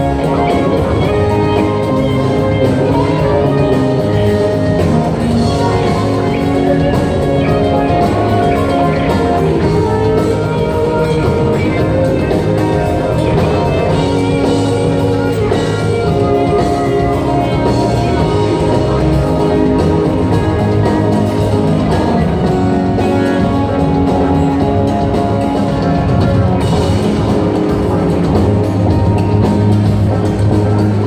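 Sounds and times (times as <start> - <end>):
drum kit: 0.0 - 31.0
electric guitars: 0.0 - 31.0
keyboards: 0.0 - 31.0.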